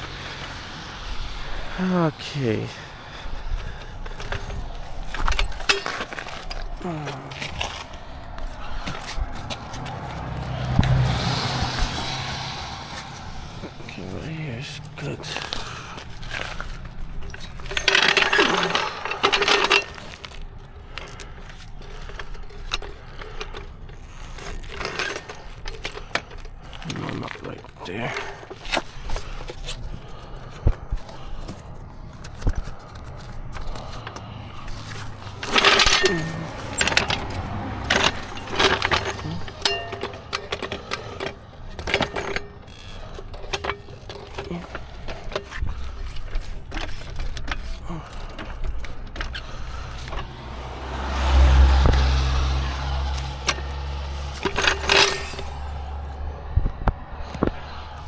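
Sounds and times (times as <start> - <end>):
metal tools clinking and rattling: 0.0 - 56.1.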